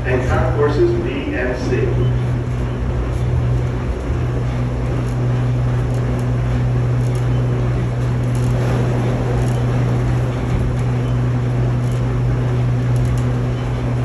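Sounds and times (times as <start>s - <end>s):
tram running at speed: 0.0s - 14.0s.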